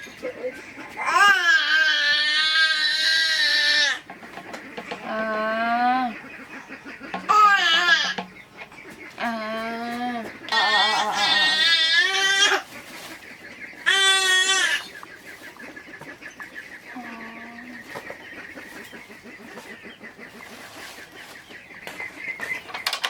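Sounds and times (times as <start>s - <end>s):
farm animal calls: 0.0s - 23.0s.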